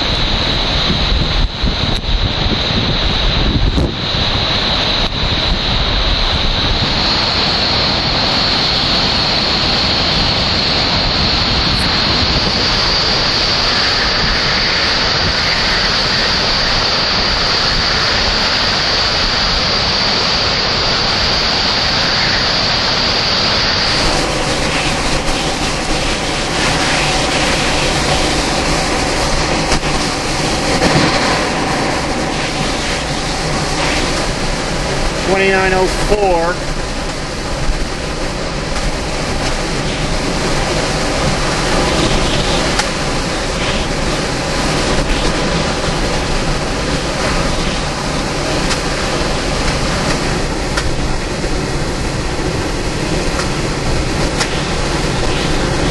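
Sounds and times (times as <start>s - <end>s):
hurricane wind blowing: 0.0s - 55.9s
wind-driven rain: 0.0s - 55.9s.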